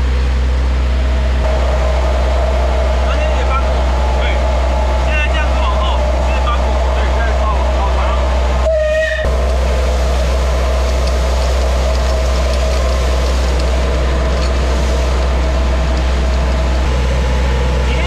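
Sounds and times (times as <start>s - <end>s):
low rumble of locomotive: 0.0s - 18.0s
steam locomotive hissing: 1.4s - 18.0s.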